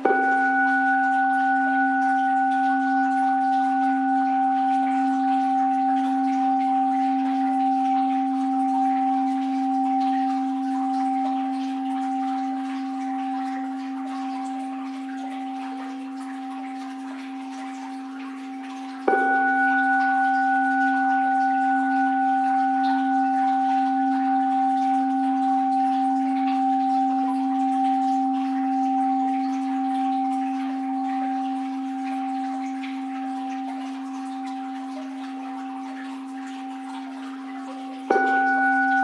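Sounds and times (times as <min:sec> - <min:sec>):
bowl bell ringing: 0:00.0 - 0:39.0.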